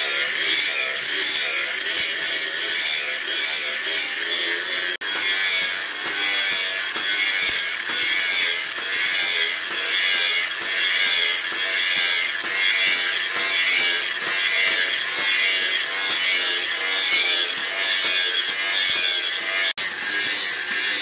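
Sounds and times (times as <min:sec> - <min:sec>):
angle grinder grinding steel: 0:00.0 - 0:21.0.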